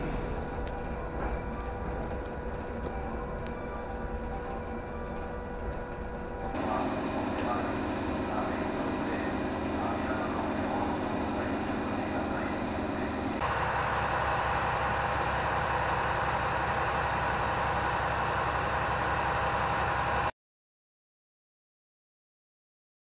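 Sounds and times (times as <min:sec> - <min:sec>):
hum with high tone: 0:00.0 - 0:20.3
train machinery humming: 0:00.0 - 0:20.3.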